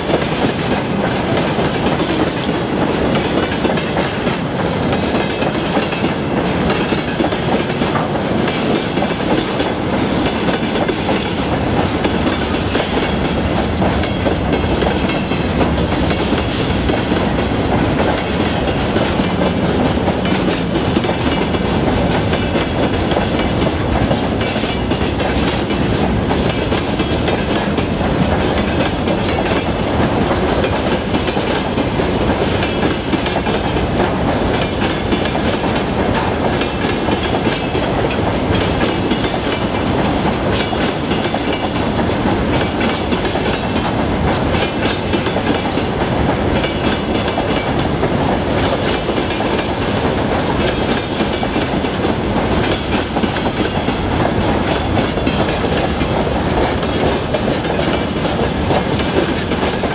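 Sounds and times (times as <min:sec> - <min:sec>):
freight train wheels clacking: 0:00.0 - 0:59.9.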